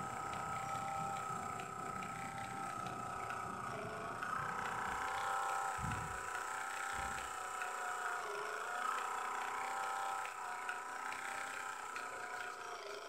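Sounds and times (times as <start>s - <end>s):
gears ticking: 0.0s - 13.0s
toy motor whine: 0.0s - 13.0s.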